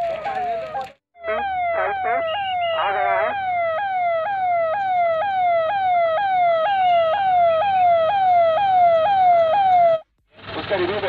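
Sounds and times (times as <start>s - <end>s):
fire engine siren: 0.0s - 10.1s.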